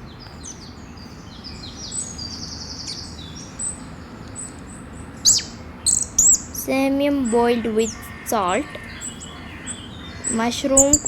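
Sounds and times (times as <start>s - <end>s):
small birds chirping: 0.0s - 11.0s
steady background hiss: 0.0s - 11.0s.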